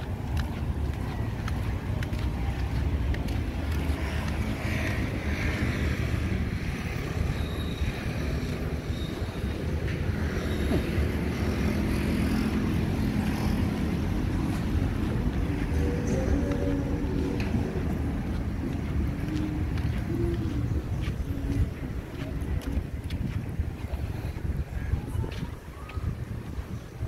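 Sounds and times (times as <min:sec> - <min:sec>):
street traffic rumble: 0:00.0 - 0:27.0
wind buffeting microphone: 0:00.0 - 0:27.0.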